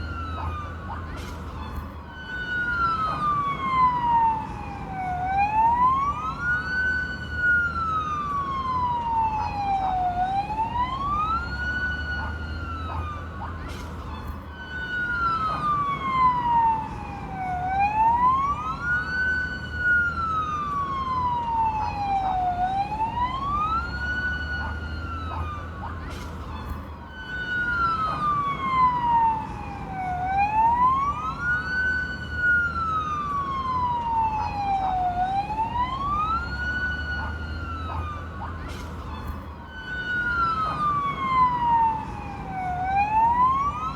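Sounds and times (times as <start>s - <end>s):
fire truck siren wailing: 0.0s - 43.9s.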